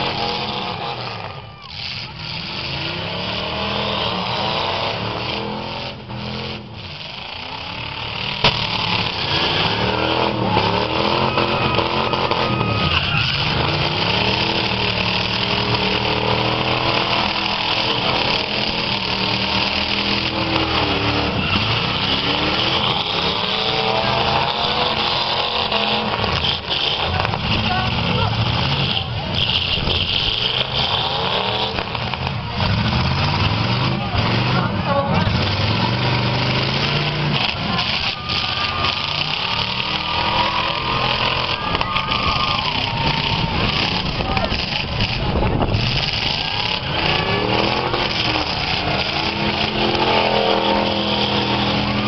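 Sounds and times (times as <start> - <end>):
car engines revving: 0.0 - 52.0
cars crashing: 0.0 - 52.0.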